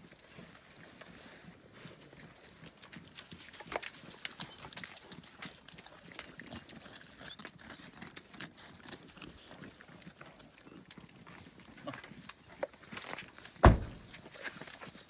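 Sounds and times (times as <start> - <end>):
dogs chewing and pawing: 0.2 - 15.0.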